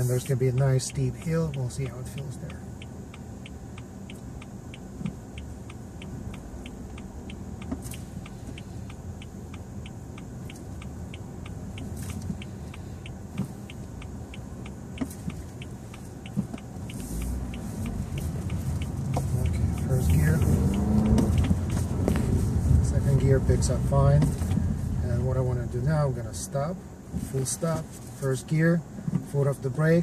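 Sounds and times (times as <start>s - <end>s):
engine and road hum: 0.0s - 30.0s
turn signal ticking: 0.0s - 30.0s.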